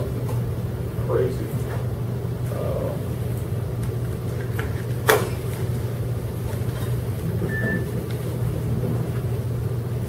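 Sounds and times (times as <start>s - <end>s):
room noise hum: 0.0s - 10.0s.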